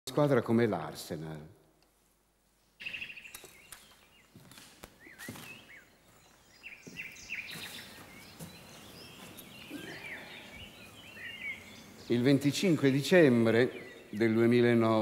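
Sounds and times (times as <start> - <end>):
faint background noise: 0.1 - 15.0
birds chirping: 2.7 - 15.0.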